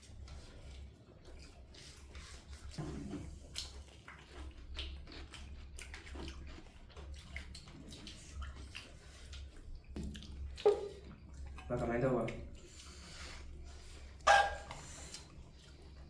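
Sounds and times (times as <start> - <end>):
wet chewing and slurping: 0.0 - 16.0.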